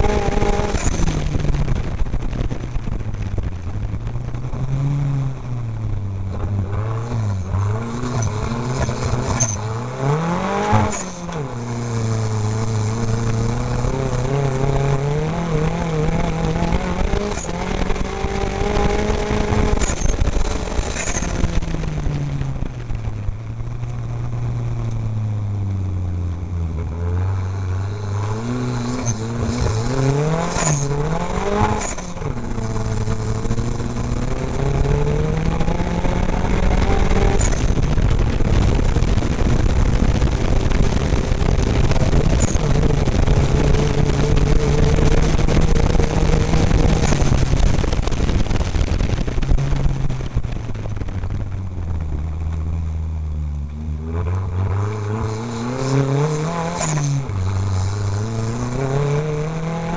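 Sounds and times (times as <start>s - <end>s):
race vehicle engine revving: 0.0s - 59.9s
rough rushing noise: 0.0s - 59.9s.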